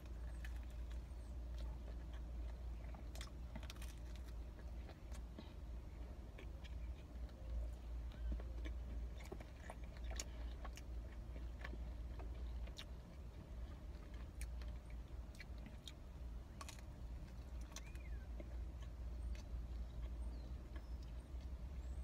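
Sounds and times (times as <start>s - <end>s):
person chewing pizza: 0.0s - 22.0s
steady low hum: 0.0s - 22.0s.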